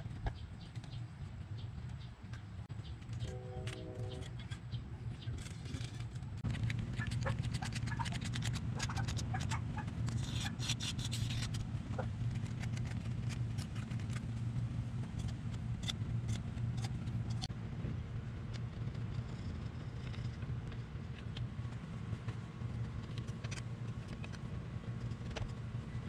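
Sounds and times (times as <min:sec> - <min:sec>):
steady low hum: 0:00.0 - 0:26.0
metallic clicks and scrapes: 0:01.8 - 0:17.5, 0:18.5 - 0:26.0.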